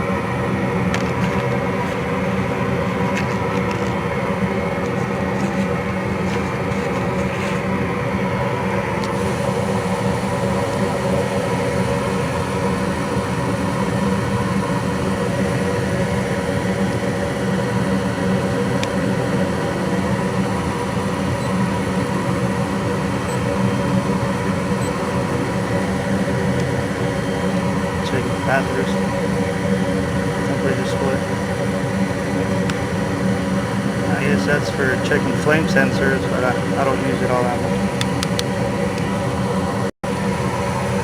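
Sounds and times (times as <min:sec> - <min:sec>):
furnace blower motor hum: 0:00.0 - 0:41.0.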